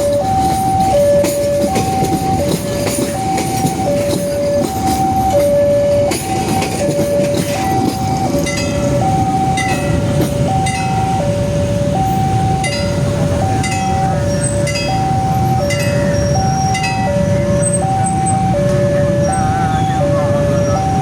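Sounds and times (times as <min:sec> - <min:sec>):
train passing slowly: 0:00.0 - 0:21.0
two-tone electronic warning alarm: 0:00.0 - 0:21.0.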